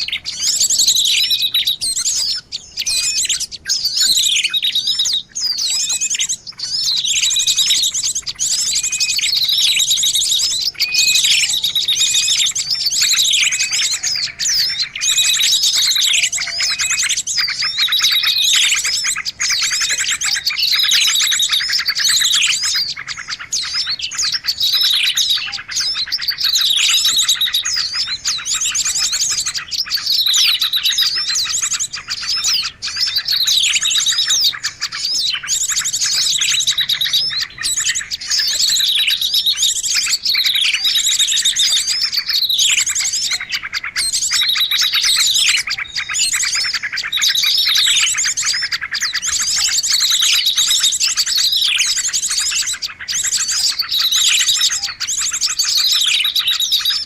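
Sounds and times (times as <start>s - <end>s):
songbird chirps and trills: 0.0s - 57.0s.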